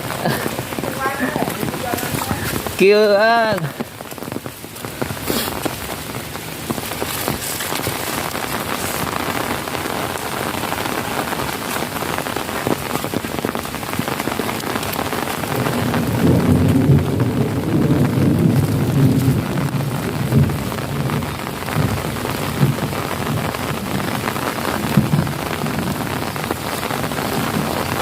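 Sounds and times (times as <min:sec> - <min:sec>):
heavy rain on puddles: 0:00.0 - 0:28.0
thunder rumbling: 0:00.0 - 0:28.0.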